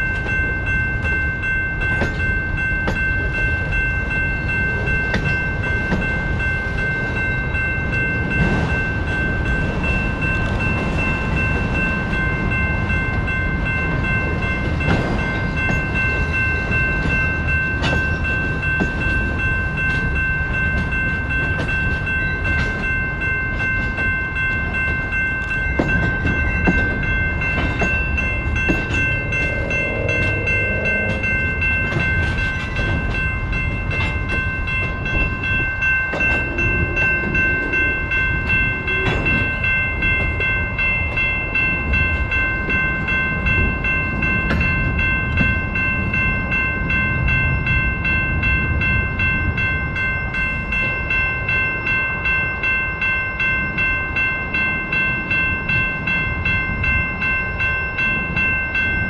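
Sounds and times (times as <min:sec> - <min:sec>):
crossing warning bell ringing: 0:00.0 - 0:59.0
freight train rumbling past: 0:00.0 - 0:59.0.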